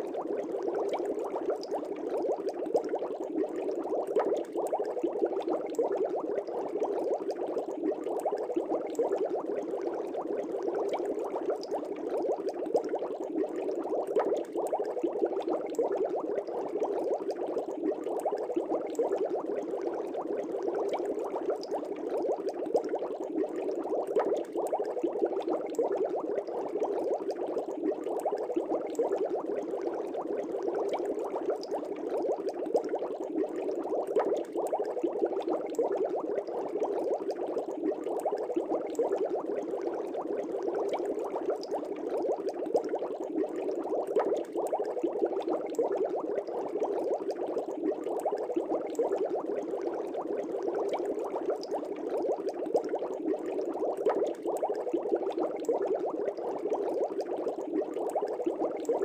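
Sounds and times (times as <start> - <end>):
aquarium air bubbles gurgling: 0.0 - 59.0.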